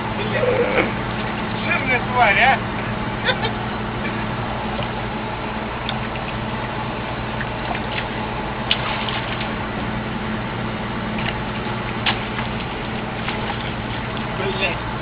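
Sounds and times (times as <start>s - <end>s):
engine idling: 0.0s - 15.0s
water noise: 0.0s - 15.0s.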